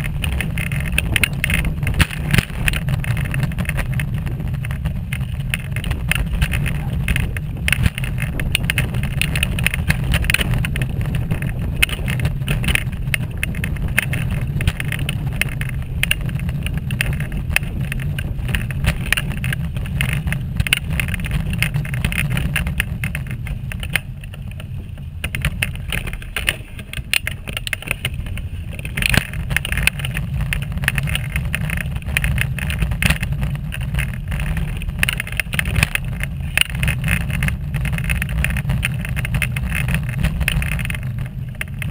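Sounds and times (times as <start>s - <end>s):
wheelchair rolling on rough path: 0.0s - 41.9s.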